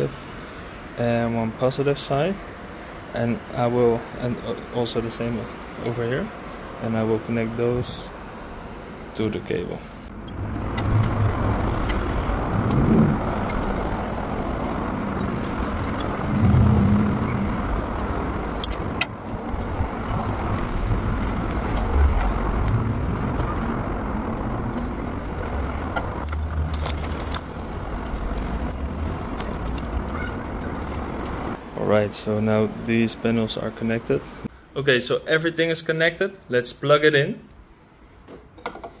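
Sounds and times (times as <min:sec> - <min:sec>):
road traffic: 0:00.0 - 0:39.0
wind: 0:00.0 - 0:39.0.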